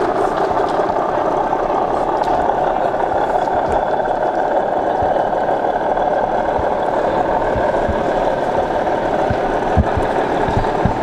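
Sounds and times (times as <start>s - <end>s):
model locomotive drone: 0.0s - 11.0s.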